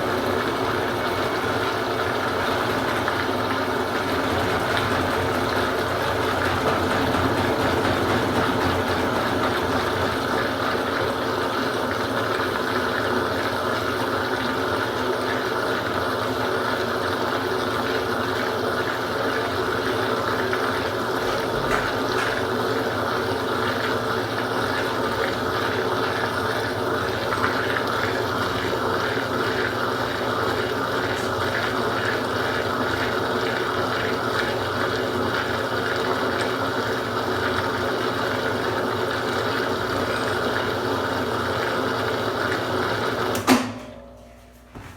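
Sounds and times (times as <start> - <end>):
rushing water: 0.0 - 15.9, 17.2 - 43.3
washing machine motor hum: 0.0 - 44.9.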